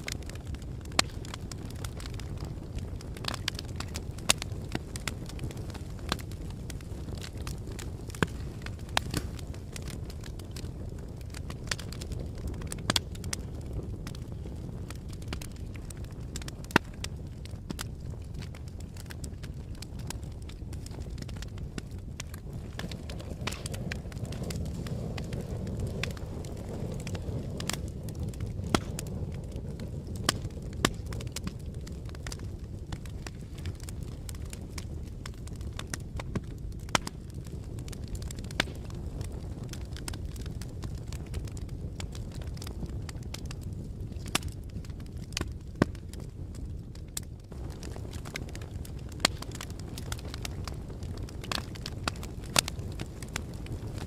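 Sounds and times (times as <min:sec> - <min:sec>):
fire crackling and popping: 0:00.0 - 0:54.0
low rumble of burning: 0:00.0 - 0:54.0.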